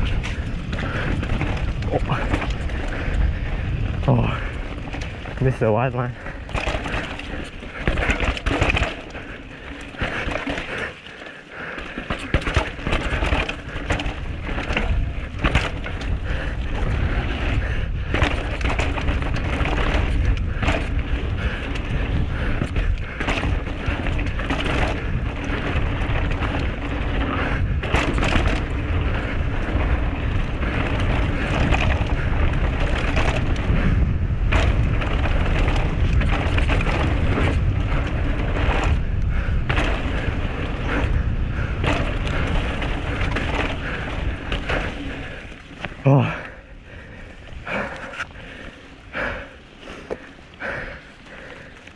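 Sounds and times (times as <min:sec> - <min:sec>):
bike knocks and clatters: 0:00.0 - 0:10.9, 0:11.7 - 0:46.3
tyres rumbling on dirt: 0:00.0 - 0:51.9
wind buffeting microphone: 0:00.0 - 0:51.9.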